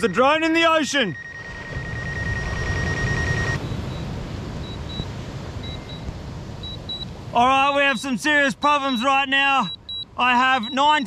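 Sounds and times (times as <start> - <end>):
short high beeps: 0.0 - 8.1, 8.8 - 11.0
low rushing background: 0.0 - 10.7
high warning tone: 0.0 - 11.0.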